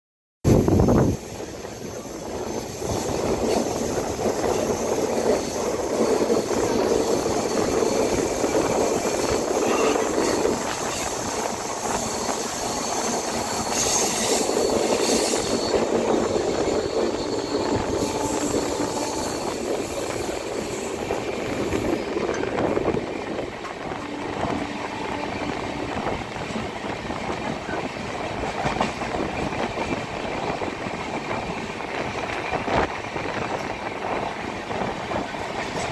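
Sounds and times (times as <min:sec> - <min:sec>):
train wheels rumbling on track: 0:00.5 - 0:35.9
train coaches creaking: 0:01.0 - 0:35.9.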